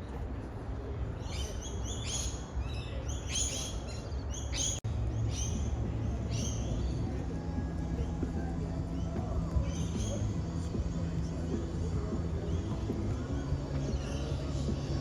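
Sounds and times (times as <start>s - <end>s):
low outdoor rumble: 0.0s - 15.0s
birds chirping: 1.2s - 7.3s, 8.2s - 15.0s.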